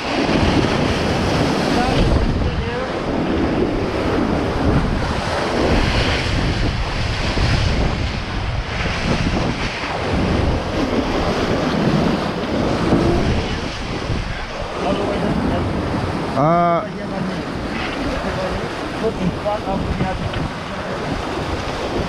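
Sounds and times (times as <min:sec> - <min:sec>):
sea rushing around boat: 0:00.0 - 0:22.0
wind buffeting microphone: 0:00.0 - 0:22.0.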